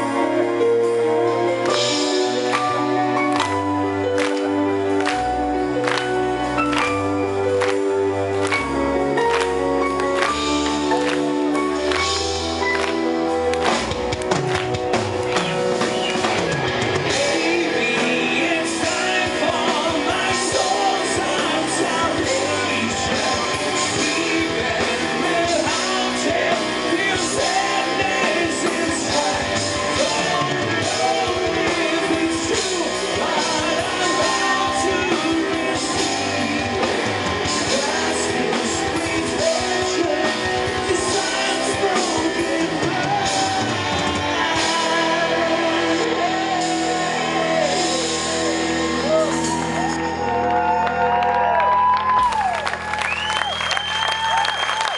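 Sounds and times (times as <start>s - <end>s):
metal band playing live: 0.0s - 50.8s
lead vocals: 0.0s - 52.5s
held keyboard chords: 0.0s - 54.9s.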